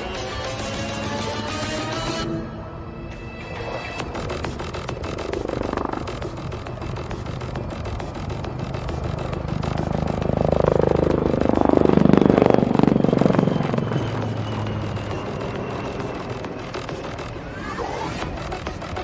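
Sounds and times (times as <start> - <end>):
helicopter flying past: 0.0 - 19.0.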